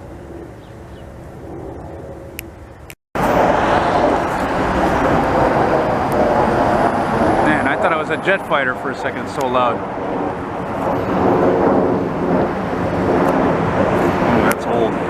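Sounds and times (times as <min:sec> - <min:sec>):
jet airliner roaring overhead: 0:00.0 - 0:15.0
traffic hum: 0:00.0 - 0:15.0.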